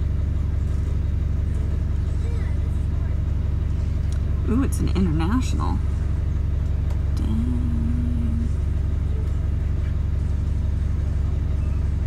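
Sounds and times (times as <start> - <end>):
short low hum: 0.0 - 12.0
vehicle engine idling: 0.0 - 12.0.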